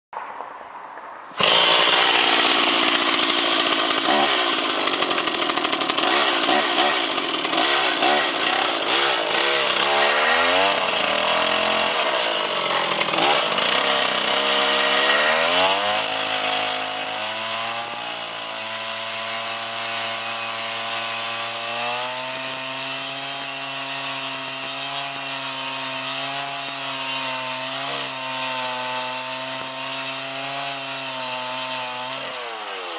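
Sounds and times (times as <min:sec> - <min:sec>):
chainsaw engine running: 0:01.4 - 0:32.9.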